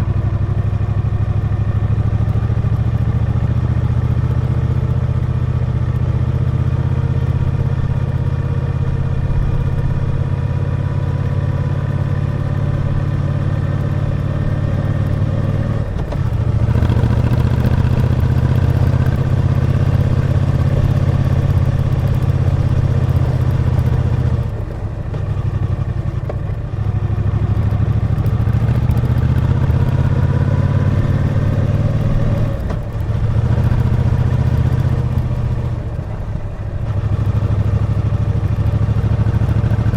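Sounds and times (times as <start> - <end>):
motorcycle engine running under load: 0.0 - 39.9.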